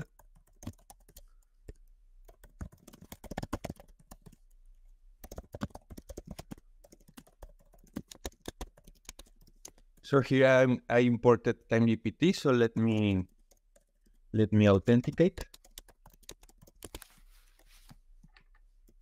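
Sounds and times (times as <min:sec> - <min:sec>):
computer keyboard typing: 0:00.0 - 0:04.6, 0:05.2 - 0:10.1, 0:12.8 - 0:19.0.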